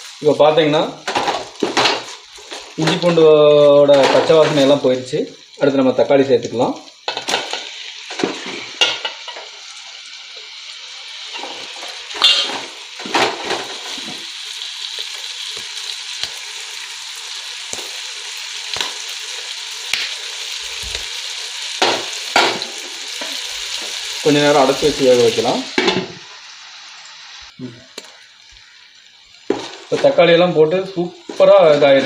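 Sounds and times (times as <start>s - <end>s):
tomatoes sizzling in oil: 0.0s - 32.0s.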